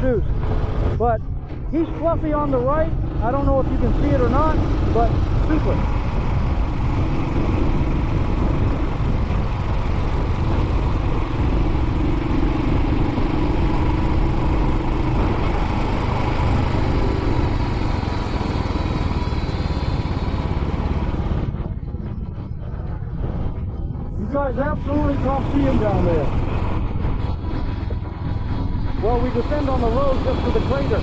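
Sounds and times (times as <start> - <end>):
motorcycle engine running: 0.0 - 31.0
wind noise: 0.0 - 31.0.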